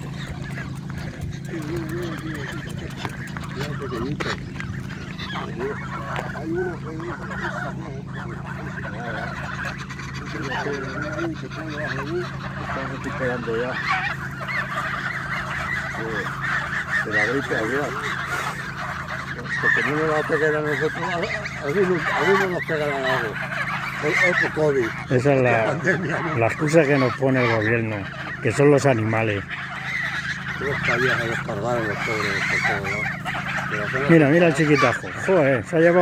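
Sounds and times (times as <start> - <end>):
geese honking: 0.0 - 36.0.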